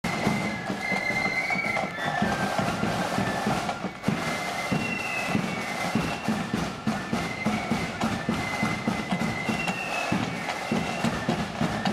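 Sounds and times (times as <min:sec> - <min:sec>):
flutes playing a tune: 0:00.0 - 0:11.9
side drums beating: 0:00.0 - 0:11.9.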